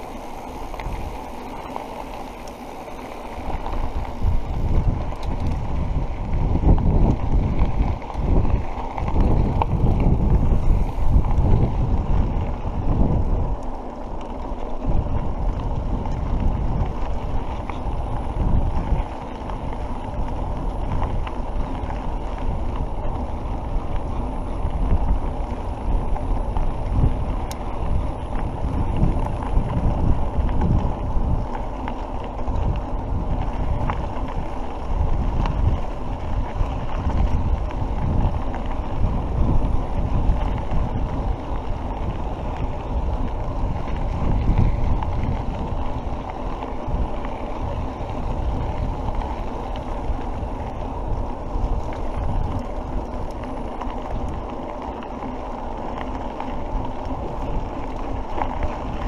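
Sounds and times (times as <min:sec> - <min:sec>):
bike tyres rolling on dirt: 0:00.0 - 0:59.0
wind rumbling on microphone: 0:00.0 - 0:59.0.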